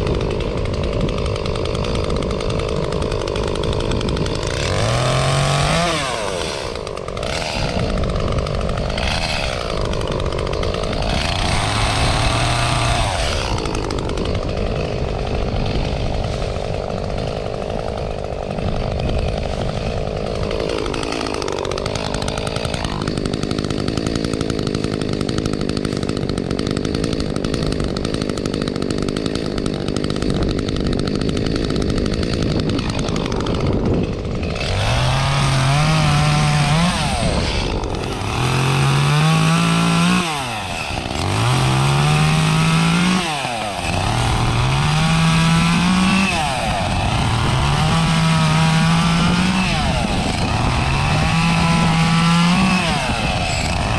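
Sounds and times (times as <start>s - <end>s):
chainsaw cutting: 0.0s - 53.9s.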